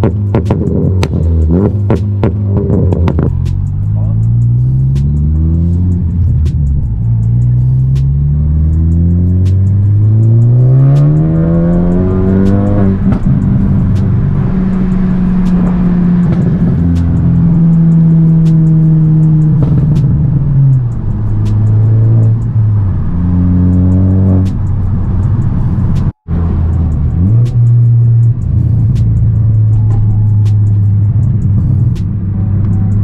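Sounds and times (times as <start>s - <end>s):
turbocharged car engine revving: 0.0s - 33.0s.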